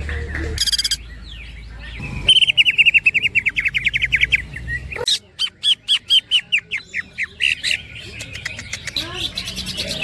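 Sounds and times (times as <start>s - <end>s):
bird singing rattling notes: 0.0s - 10.0s.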